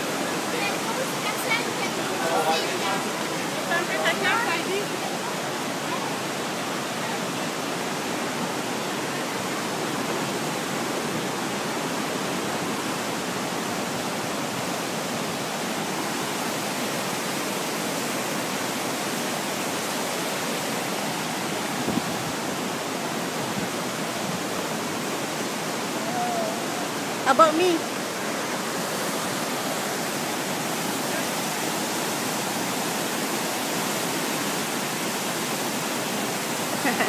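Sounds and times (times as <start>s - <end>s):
rushing whitewater rapids: 0.0s - 37.0s.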